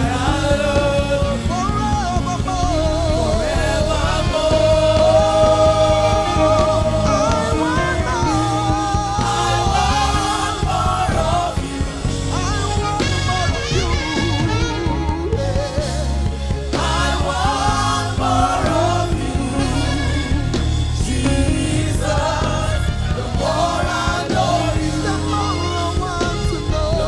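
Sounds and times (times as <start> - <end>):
backing band playing: 0.0 - 27.0
person singing long notes: 0.0 - 27.0.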